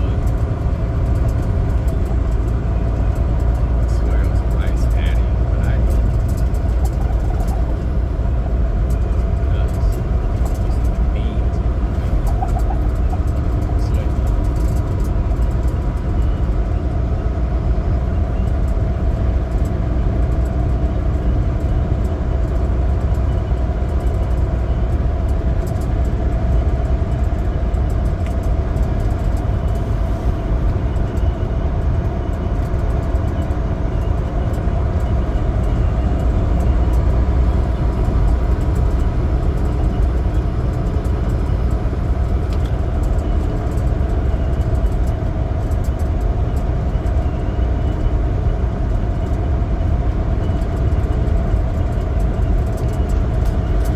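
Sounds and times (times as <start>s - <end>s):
diesel truck engine running: 0.0s - 53.9s
road noise: 0.0s - 53.9s.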